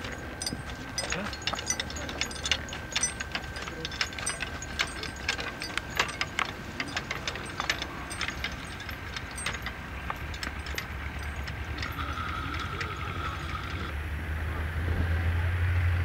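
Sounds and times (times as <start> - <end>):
plough and chains rattling: 0.0 - 14.0.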